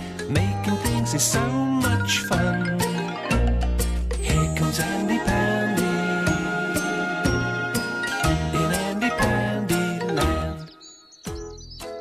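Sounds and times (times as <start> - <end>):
chiming theme music with bass: 0.0 - 12.0.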